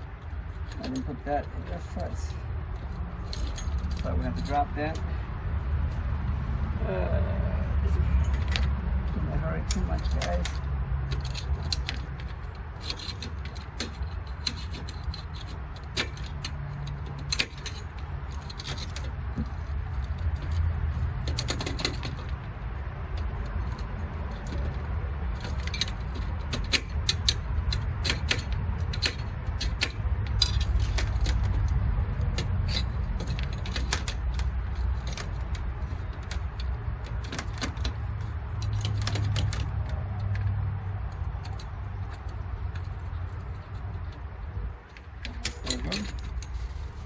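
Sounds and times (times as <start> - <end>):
steady low rumble: 0.0 - 47.0
metal conduit clicking and rattling: 0.1 - 5.2, 8.2 - 46.6.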